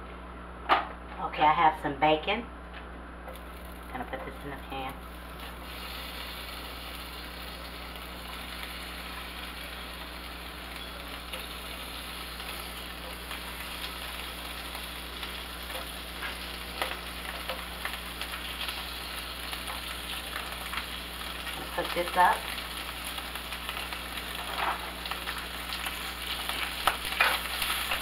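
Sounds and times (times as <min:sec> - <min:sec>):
bacon sizzling in a frying pan: 0:03.3 - 0:28.0.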